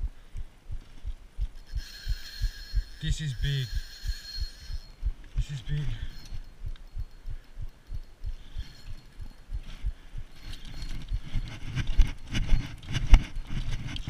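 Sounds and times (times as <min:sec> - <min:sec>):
fishing reel rhythmic thumps: 0:01.4 - 0:14.0.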